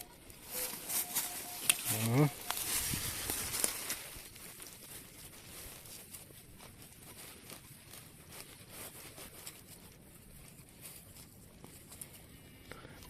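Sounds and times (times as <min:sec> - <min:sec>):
leaf litter rustling and crackling: 0:00.0 - 0:12.6.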